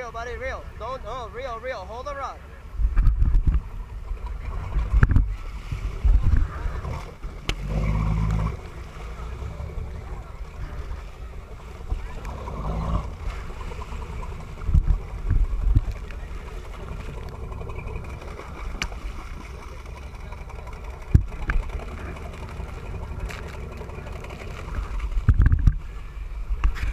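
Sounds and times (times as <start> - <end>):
low boat rumble: 0.0 - 26.9
sea water rushing and splashing: 0.0 - 26.9.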